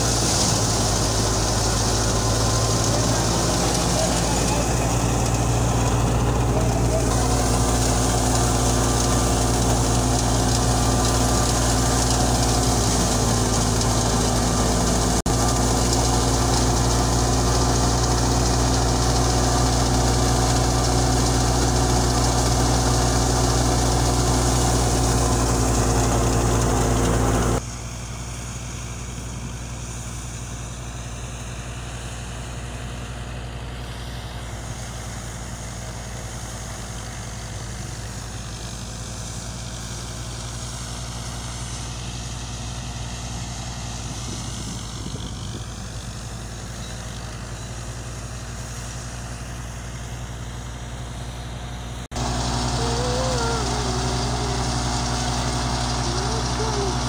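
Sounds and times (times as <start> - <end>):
thresher engine drone: 0.0 - 57.0.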